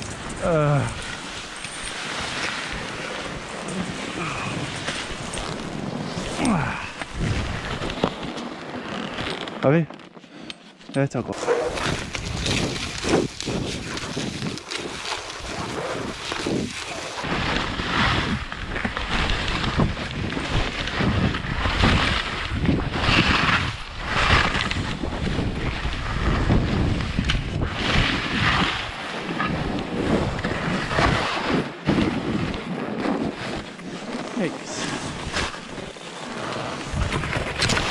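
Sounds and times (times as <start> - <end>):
wind rumbling on microphone: 0.0 - 8.3, 11.3 - 37.9
skis swishing over snow: 0.0 - 10.3, 11.2 - 37.9.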